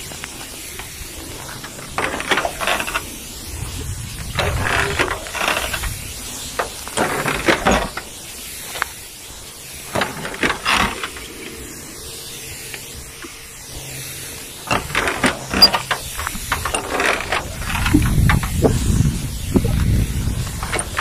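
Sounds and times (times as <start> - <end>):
sprayer wand hissing: 0.0 - 21.0.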